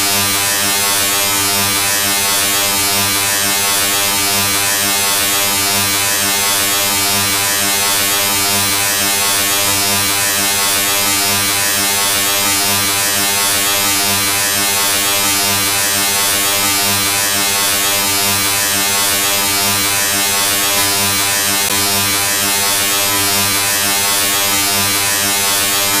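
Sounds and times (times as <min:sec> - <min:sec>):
electric motor buzz: 0:00.0 - 0:26.0.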